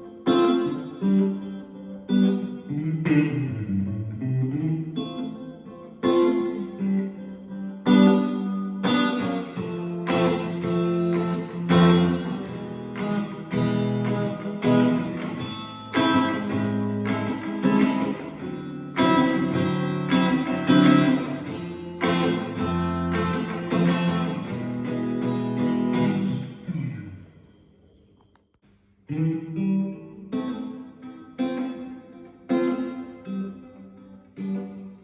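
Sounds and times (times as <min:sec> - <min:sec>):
clean electric guitar chords: 0:00.0 - 0:27.7, 0:29.1 - 0:35.0.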